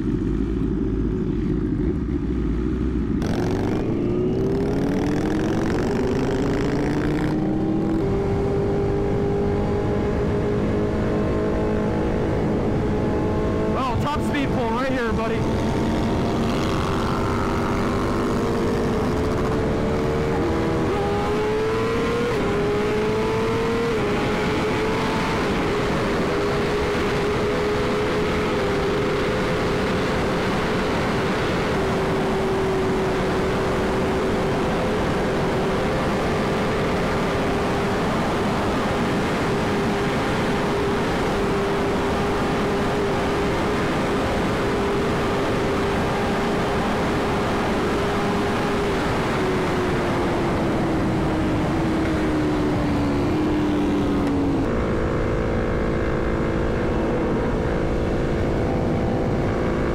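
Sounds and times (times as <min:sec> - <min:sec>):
motorcycle engine revving: 0:00.0 - 0:59.9
wind rush on microphone: 0:03.0 - 0:59.9.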